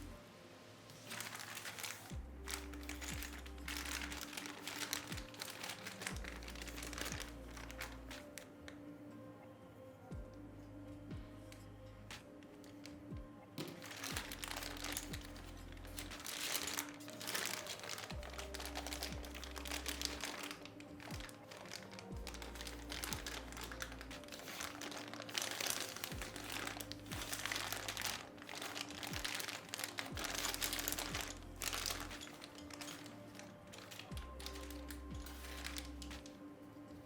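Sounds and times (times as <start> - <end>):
background music: 0.0 - 37.0
packaging crinkling: 0.9 - 8.5, 13.6 - 36.5.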